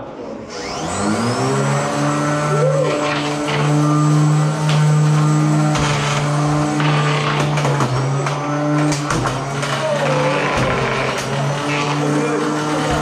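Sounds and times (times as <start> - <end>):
electric motors whining: 0.4 - 13.0.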